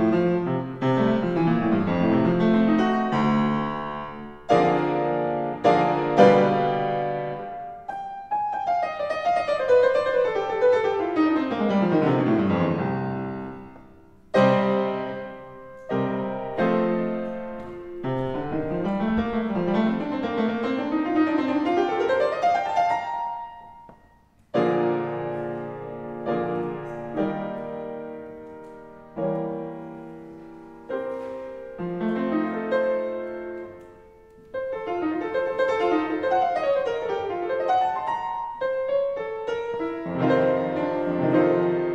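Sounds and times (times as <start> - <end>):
solo piano playing: 0.0 - 41.9.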